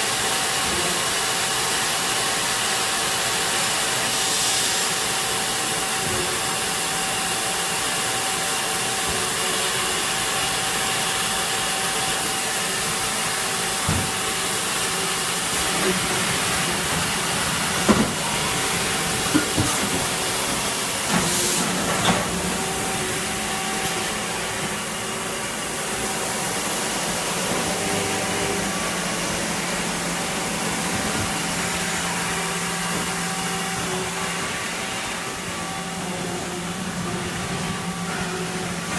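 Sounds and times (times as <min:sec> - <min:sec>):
machine running with hiss and hum: 0:00.0 - 0:38.9.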